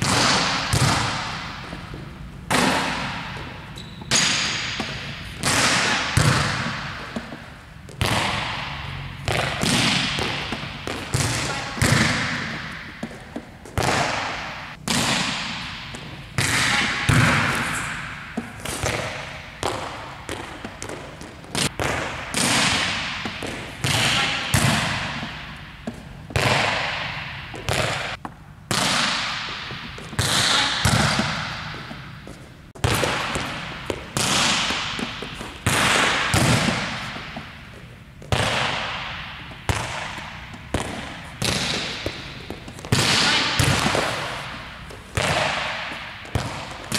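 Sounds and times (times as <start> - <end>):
volleyball slaps echoing in gym: 0.0 - 46.9.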